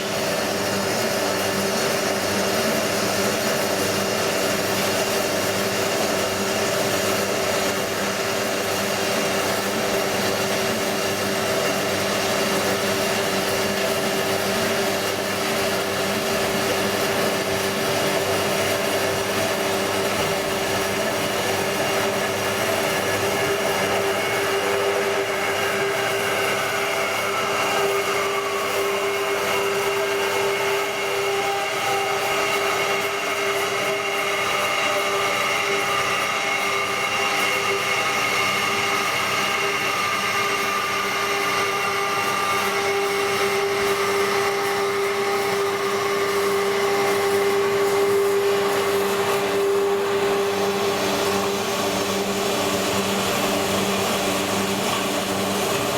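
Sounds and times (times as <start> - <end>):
band saw whining: 0.0 - 55.9.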